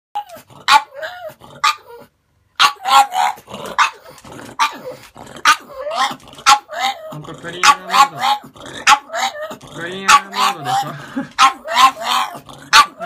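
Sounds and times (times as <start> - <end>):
dog barking: 0.7 - 2.0, 2.6 - 7.0, 7.6 - 9.4, 10.0 - 13.0.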